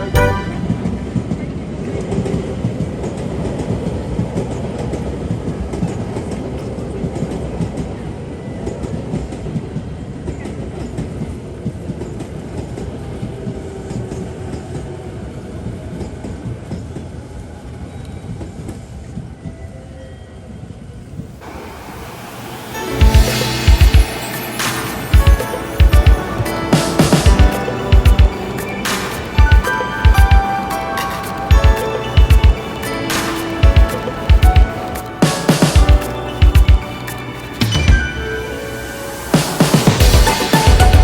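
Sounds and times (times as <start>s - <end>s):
train wheels clickety-clack: 0.7s - 19.4s, 22.6s - 38.0s.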